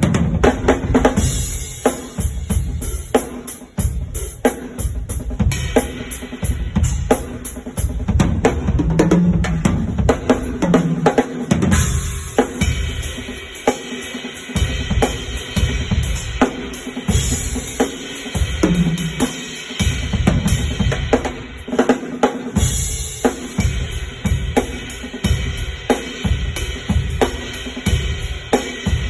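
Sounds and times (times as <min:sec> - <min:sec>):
kick and snare drum groove: 0:00.0 - 0:29.0.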